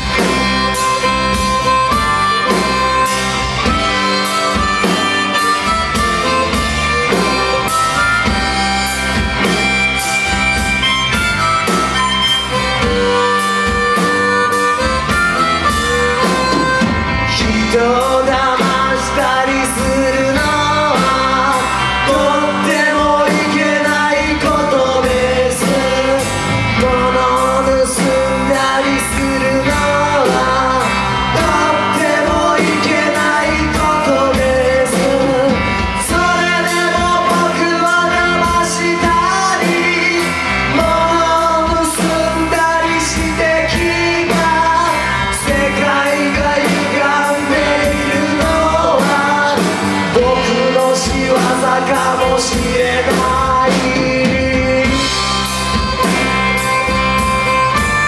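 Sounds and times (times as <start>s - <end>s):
male lead vocal: 0.0s - 10.6s, 11.7s - 56.8s
harmonica lead: 0.0s - 58.0s
live rock band playing: 0.0s - 58.0s.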